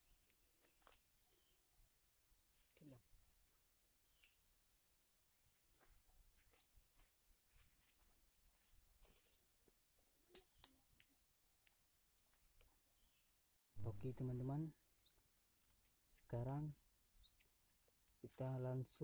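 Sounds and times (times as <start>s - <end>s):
small songbird chirping: 0.0s - 18.2s.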